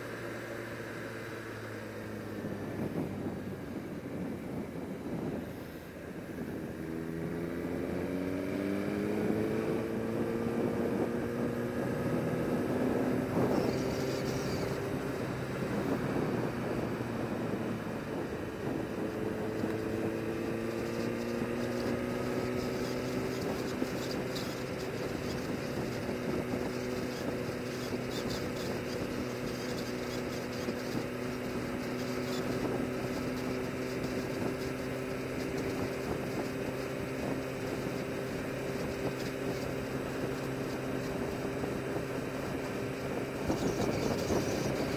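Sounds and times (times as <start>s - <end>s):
motorcycle engine revving: 0.0s - 44.9s
wind noise: 1.5s - 44.9s.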